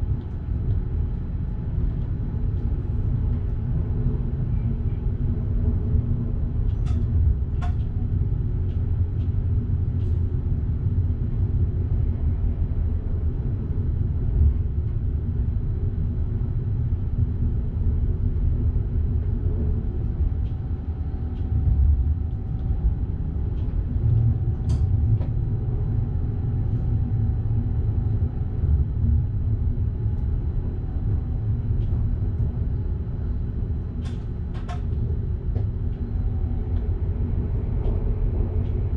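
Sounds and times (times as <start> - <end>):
train low rumble: 0.0 - 38.9.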